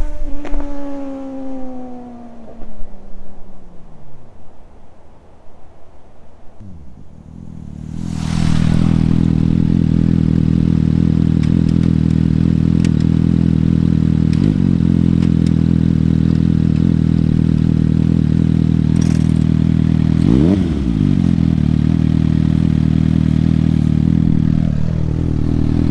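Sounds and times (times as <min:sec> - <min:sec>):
motorcycle engine idling and revving: 0:00.0 - 0:03.8, 0:06.6 - 0:25.9.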